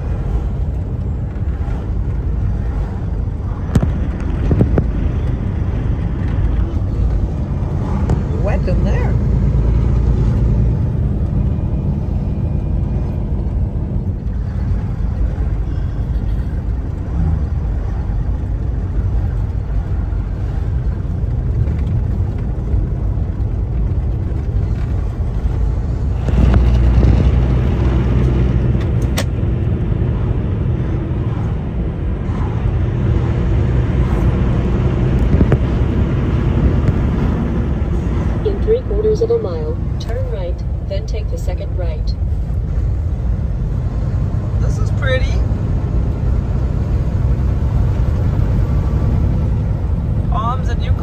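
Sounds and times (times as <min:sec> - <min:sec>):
road noise: 0:00.0 - 0:51.0
truck engine drone: 0:00.0 - 0:51.0.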